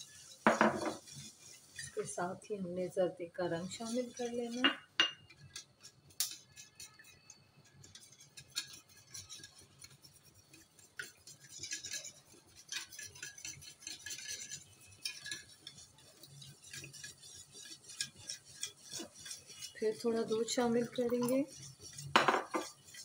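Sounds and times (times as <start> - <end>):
whisk clinking against steel dish: 0.0 - 2.2, 3.5 - 23.0
liquid swishing: 0.0 - 23.0.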